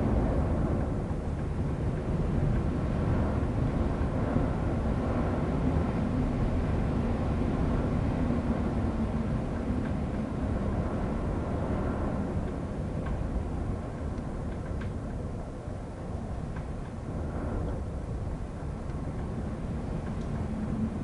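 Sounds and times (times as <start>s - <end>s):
rain: 0.0s - 21.0s
wind blowing: 0.0s - 21.0s.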